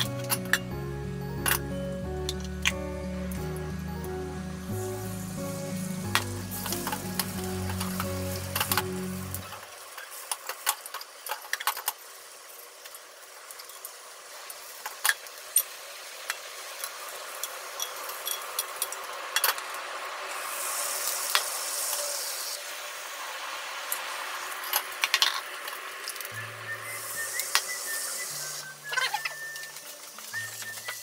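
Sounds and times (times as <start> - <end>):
egg sizzling in a pan: 1.3 - 31.0.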